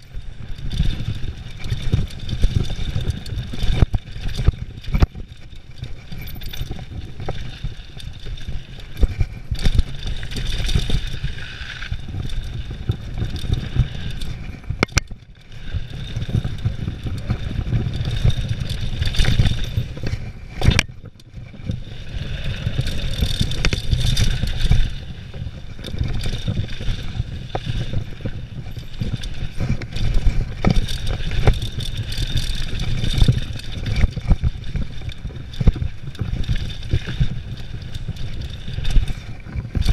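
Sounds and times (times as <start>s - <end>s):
bike clattering over bumps: 0.0s - 39.9s
bike tyres rumbling on dirt: 0.0s - 39.9s
wind on microphone: 0.0s - 39.9s.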